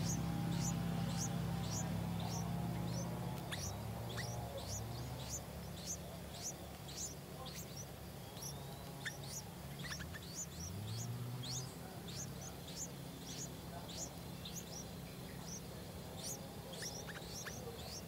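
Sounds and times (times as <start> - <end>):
nestlings cheeping: 0.0 - 18.0.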